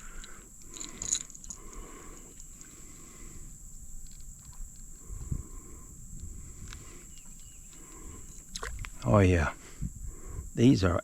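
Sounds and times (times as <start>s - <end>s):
steady high-pitched hum: 0.0s - 11.0s.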